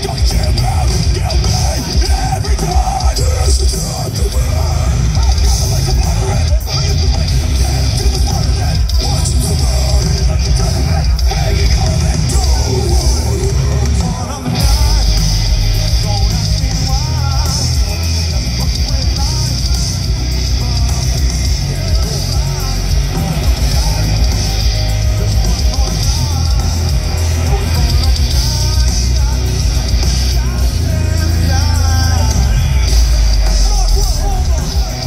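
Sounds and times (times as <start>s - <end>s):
heavy metal band playing live: 0.0s - 35.0s
singer's vocals: 0.0s - 35.0s.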